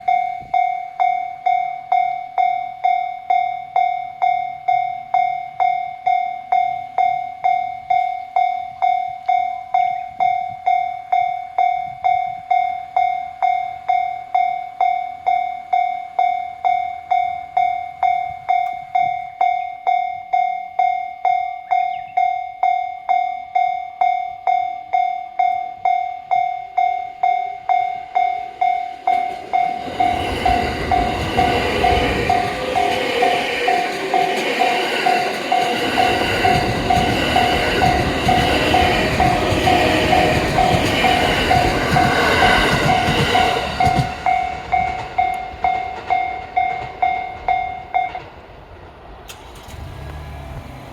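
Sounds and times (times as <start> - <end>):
level-crossing alarm bell tone: 0.0 - 48.3.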